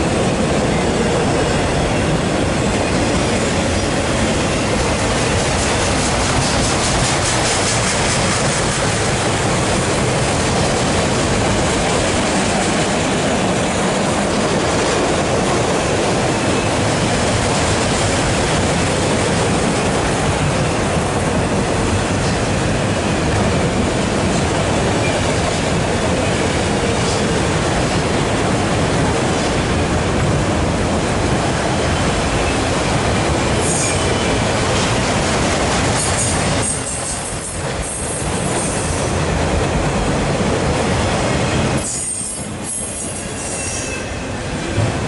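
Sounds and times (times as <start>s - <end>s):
freight cars rumbling on rails: 0.0s - 45.0s.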